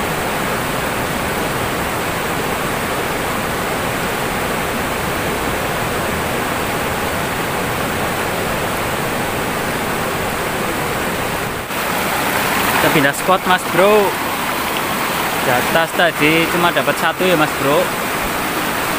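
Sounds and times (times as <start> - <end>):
river rapids rushing over boulders: 0.0 - 18.9.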